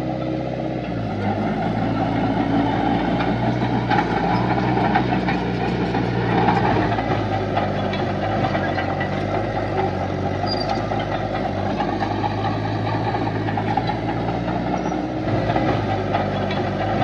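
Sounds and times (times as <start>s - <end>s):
heavy diesel engine humming: 0.0s - 17.0s.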